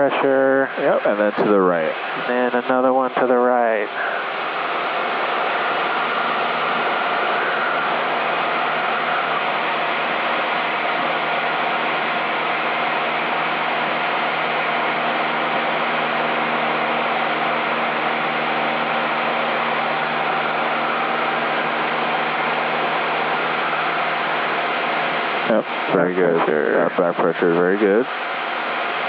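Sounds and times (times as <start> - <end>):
aircraft engine and propeller drone: 0.0 - 29.0.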